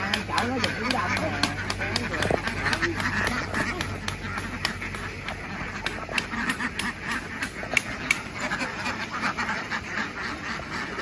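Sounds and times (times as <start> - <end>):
flock of ducks quacking: 0.0 - 11.0.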